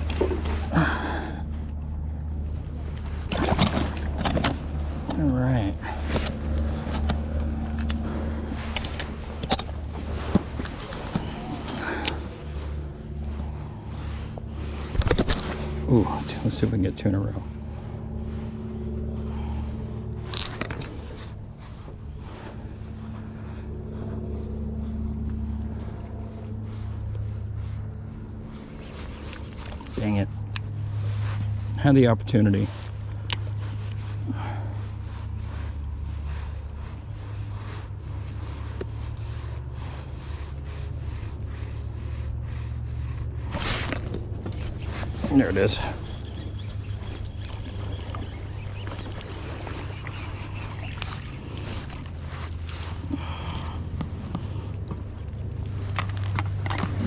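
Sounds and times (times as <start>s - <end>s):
rustle: 0.0s - 57.0s.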